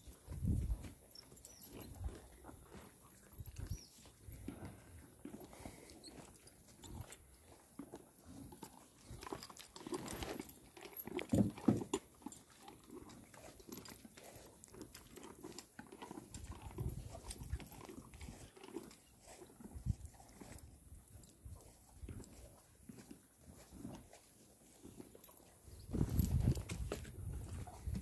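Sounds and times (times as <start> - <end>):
cattle chewing and crunching: 0.0 - 28.0.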